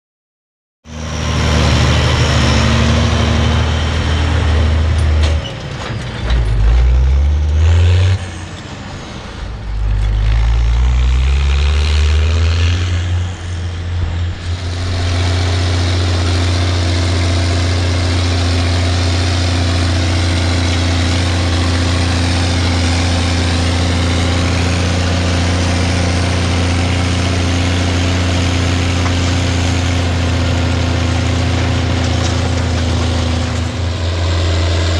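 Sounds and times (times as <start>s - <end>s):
tractor diesel engine revving: 0.9s - 34.9s.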